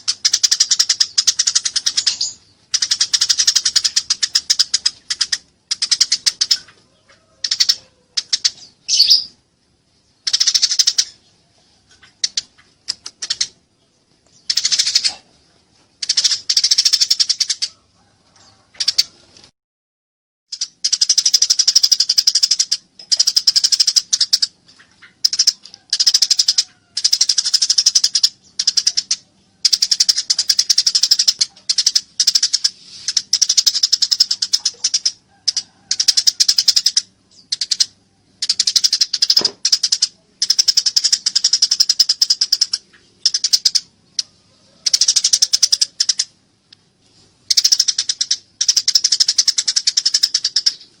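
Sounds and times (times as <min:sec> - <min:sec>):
sparrow chattering chirps: 0:00.0 - 0:06.8, 0:07.4 - 0:09.4, 0:10.1 - 0:15.3, 0:16.0 - 0:17.7, 0:20.5 - 0:46.4, 0:47.5 - 0:51.0.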